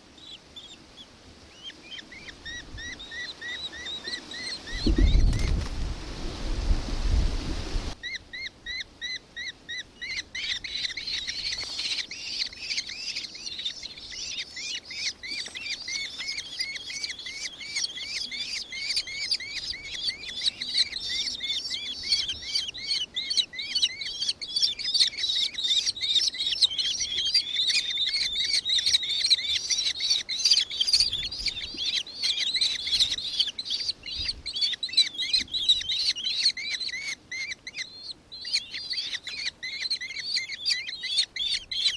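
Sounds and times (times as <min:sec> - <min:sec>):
kestrel shrill chattering calls: 0:08.0 - 0:41.9.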